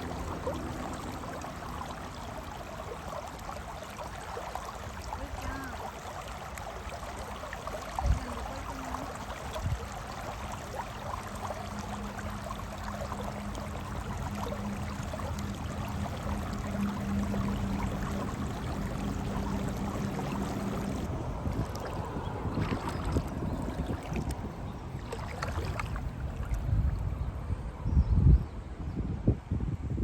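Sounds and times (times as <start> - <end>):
shallow river water running: 0.0 - 29.0.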